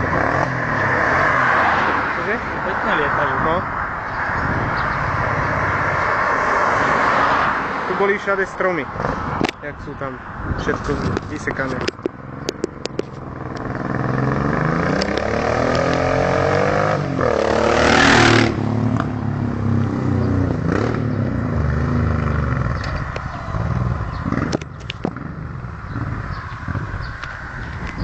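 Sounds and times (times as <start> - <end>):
motorcycle passing at speed: 0.0 - 8.0, 12.2 - 28.0.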